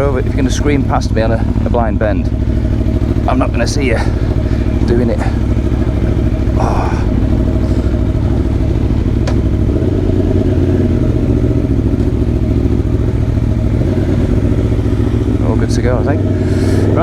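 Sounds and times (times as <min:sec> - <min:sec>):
motorcycle engine running steadily: 0:00.0 - 0:17.0.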